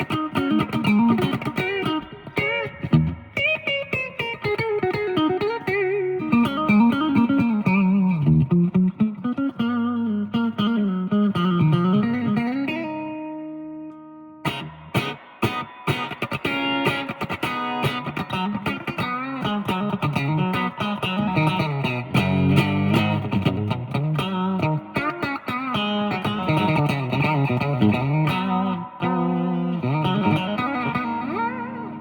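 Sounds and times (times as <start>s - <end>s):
electric guitar playing: 0.0s - 32.0s.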